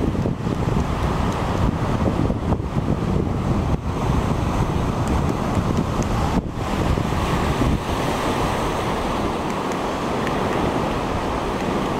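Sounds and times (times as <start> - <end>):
surf washing: 0.0 - 11.9
wind buffeting microphone: 0.0 - 11.9.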